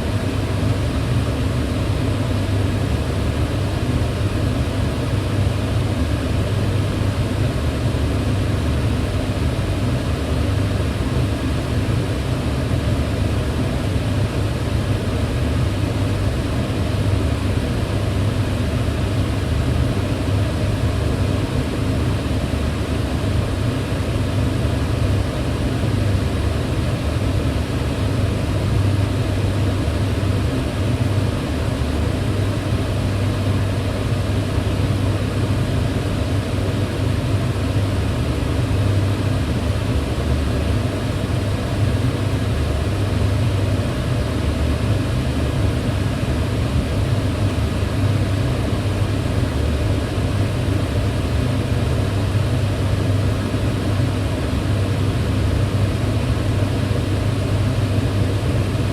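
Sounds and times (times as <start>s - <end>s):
range hood fan running: 0.0s - 58.9s.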